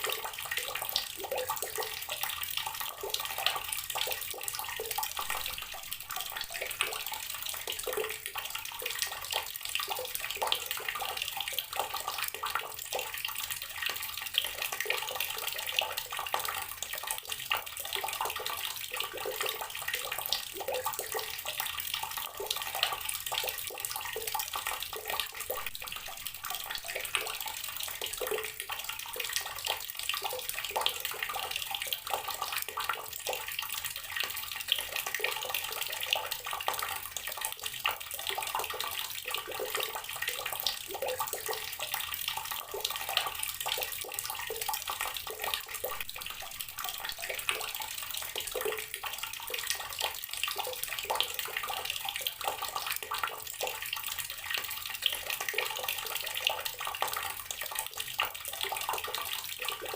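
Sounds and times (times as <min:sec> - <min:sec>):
tap water pouring into container: 0:00.0 - 0:59.9.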